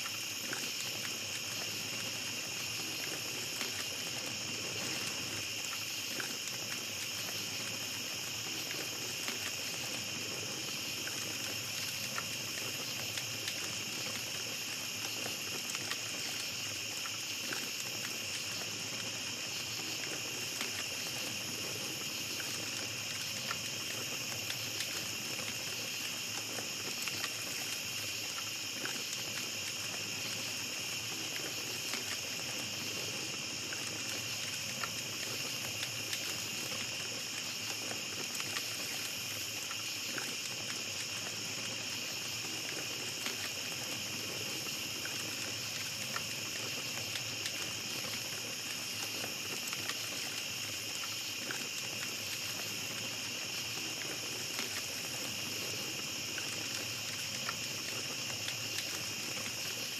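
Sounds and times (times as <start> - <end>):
campfire crackling and popping: 0.0 - 59.9
night insects chorus: 0.0 - 59.9.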